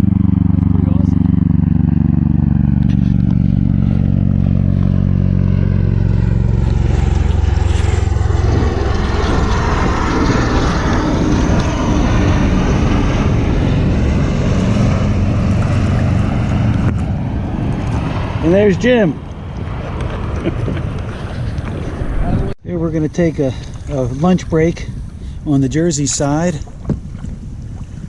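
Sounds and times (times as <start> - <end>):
low-flying rotor aircraft drone: 0.0 - 28.0.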